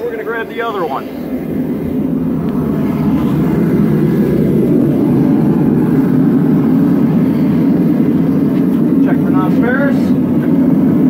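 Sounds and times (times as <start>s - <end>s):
gas forge burner rushing: 0.0s - 11.0s.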